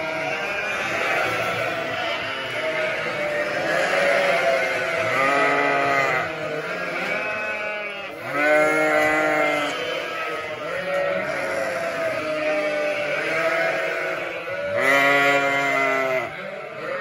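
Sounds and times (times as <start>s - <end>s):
sheep bleating: 0.0s - 17.0s.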